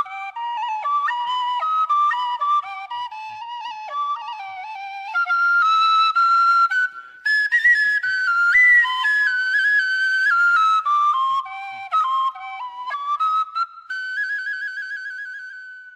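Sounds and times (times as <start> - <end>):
bamboo flute melody: 0.0 - 15.9.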